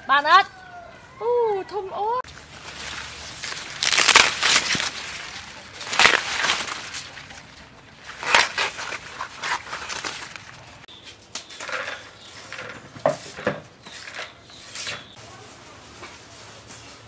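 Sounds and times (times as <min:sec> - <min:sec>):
corn husks rustling: 0:02.2 - 0:17.0.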